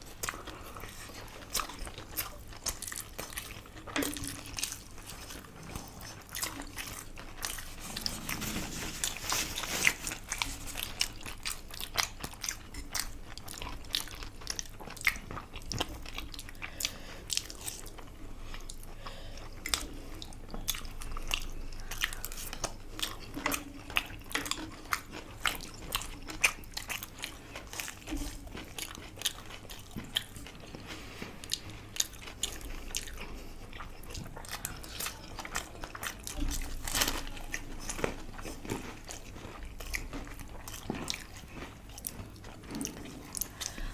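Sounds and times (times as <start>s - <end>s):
crunchy food being chewed: 0.0s - 43.9s.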